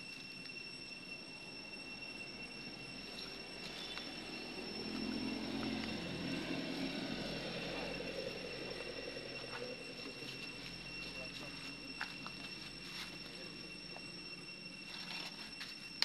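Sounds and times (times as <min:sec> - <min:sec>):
high-pitched whine: 0:00.0 - 0:16.0
low engine-like drone: 0:00.0 - 0:16.0.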